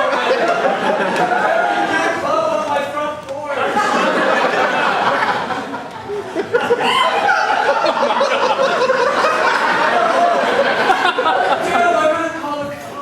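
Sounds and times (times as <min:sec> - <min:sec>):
audience laughing: 0:00.0 - 0:02.5, 0:03.4 - 0:12.2
performers talking: 0:00.0 - 0:13.0.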